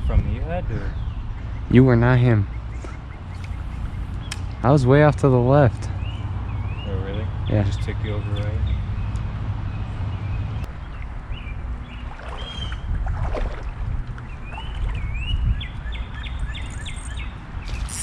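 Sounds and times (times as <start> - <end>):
songbird calling: 0.9 - 4.7, 5.8 - 13.0, 14.2 - 18.0.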